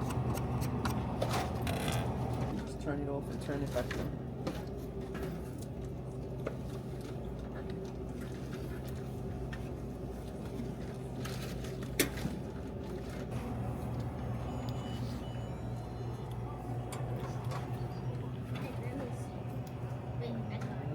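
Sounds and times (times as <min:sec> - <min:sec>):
vending machine hum: 0:00.0 - 0:20.9.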